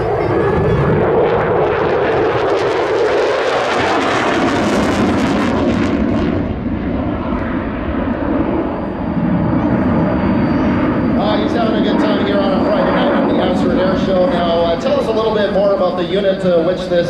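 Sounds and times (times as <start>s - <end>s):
fighter jet pass with crackle: 0.0s - 17.0s.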